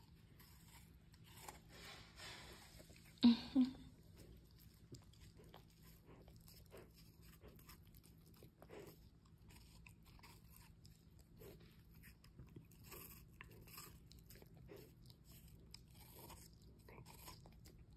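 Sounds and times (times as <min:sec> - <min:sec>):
puppy chewing apple: 0:00.0 - 0:17.9.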